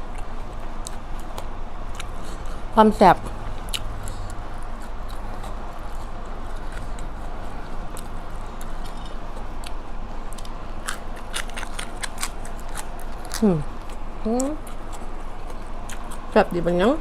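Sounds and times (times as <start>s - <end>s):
chewing and crunching food: 0.0s - 17.0s
low steady hum: 0.0s - 17.0s.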